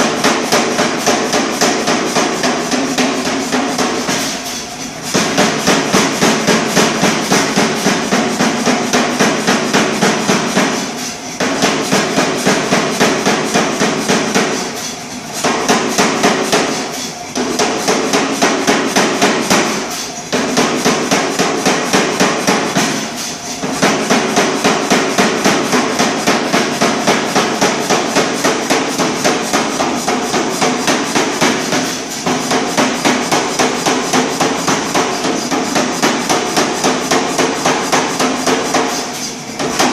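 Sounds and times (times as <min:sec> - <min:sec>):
air hammer pounding hot steel: 0:00.0 - 0:39.9.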